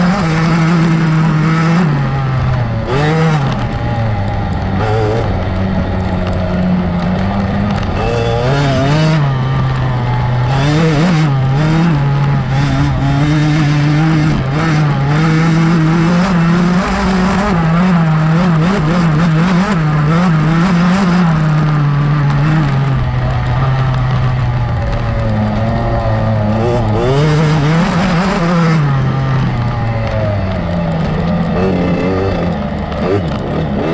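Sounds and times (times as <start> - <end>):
two-stroke motorcycle engine revving: 0.0 - 33.9.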